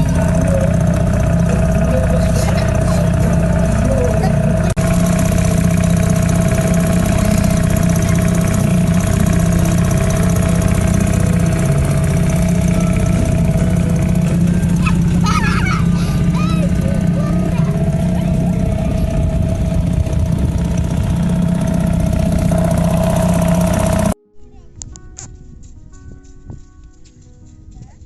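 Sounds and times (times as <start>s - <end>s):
outboard motor running: 0.0s - 24.2s.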